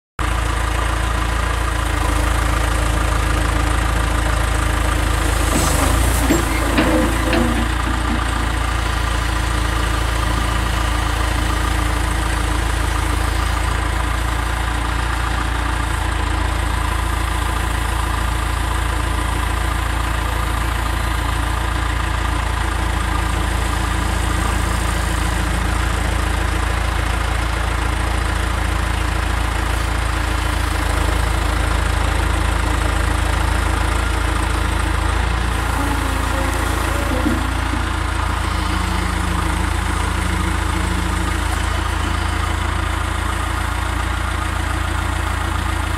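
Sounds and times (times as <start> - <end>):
backhoe engine running: 0.2 - 45.9.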